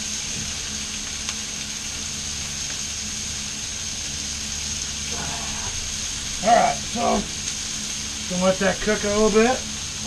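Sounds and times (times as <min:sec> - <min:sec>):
food sizzling on a griddle: 0:00.0 - 0:10.0
low steady hum: 0:00.0 - 0:10.0.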